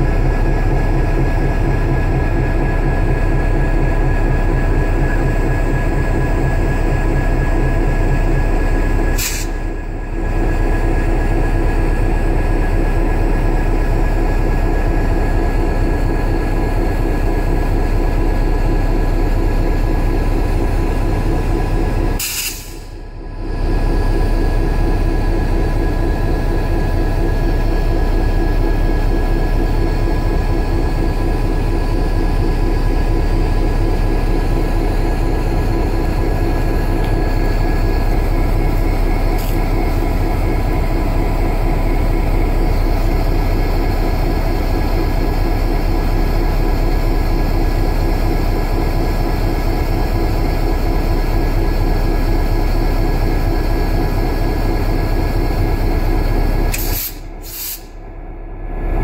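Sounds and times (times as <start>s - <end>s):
diesel locomotive idling: 0.0s - 59.0s.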